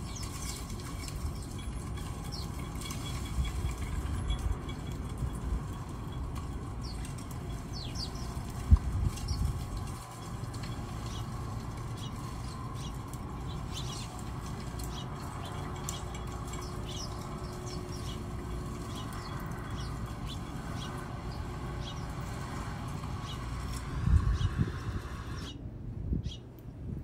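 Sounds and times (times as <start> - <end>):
birds chirping: 0.0 - 25.6
steady low rumble: 0.0 - 27.0.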